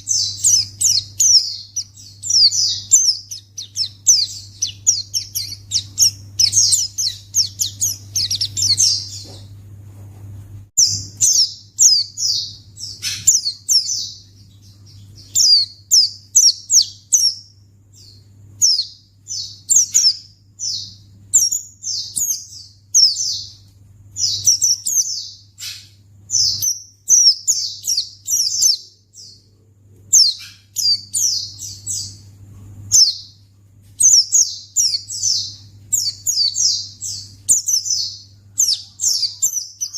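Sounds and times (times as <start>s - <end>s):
bird singing high chirps: 0.0s - 9.4s, 10.8s - 29.4s, 30.1s - 32.3s, 32.9s - 33.4s, 34.0s - 39.9s
low steady hum: 0.0s - 39.9s.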